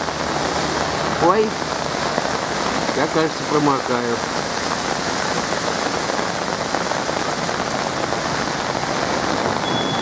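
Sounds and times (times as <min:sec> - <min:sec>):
torrential rain pouring: 0:00.0 - 0:10.0.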